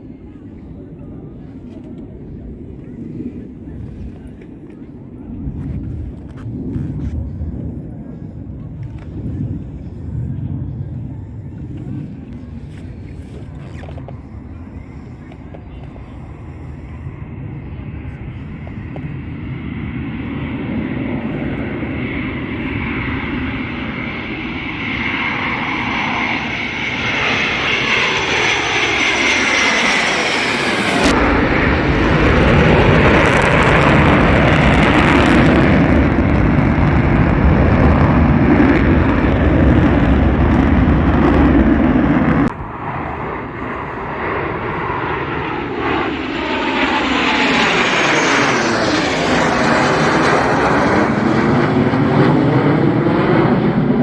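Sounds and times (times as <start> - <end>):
jet aircraft roaring past: 0.0 - 54.0.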